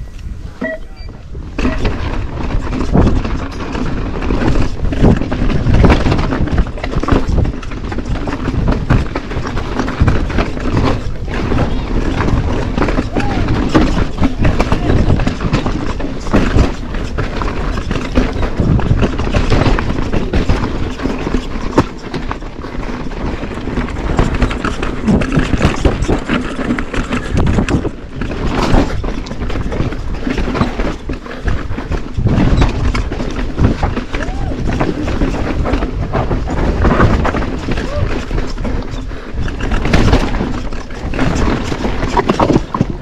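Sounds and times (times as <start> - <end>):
steady rumbling rush: 0.0 - 43.0
bike clattering over rocks: 1.5 - 43.0.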